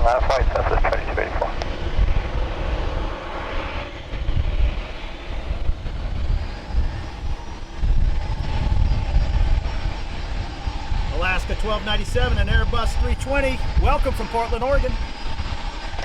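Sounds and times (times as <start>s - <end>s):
jet engines rumbling: 0.0s - 16.0s
turbine whine: 0.0s - 16.0s.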